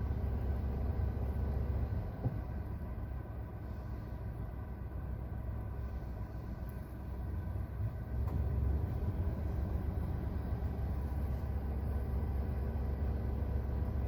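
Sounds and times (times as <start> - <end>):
car cabin noise: 0.0 - 14.0.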